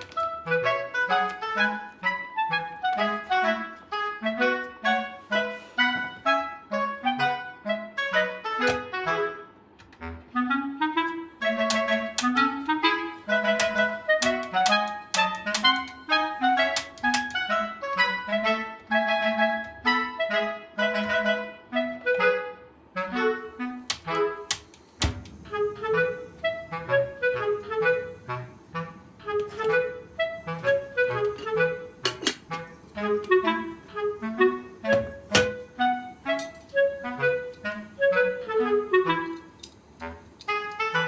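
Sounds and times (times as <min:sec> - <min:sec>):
woodwind melody over rhythmic beat: 0:00.0 - 0:41.0.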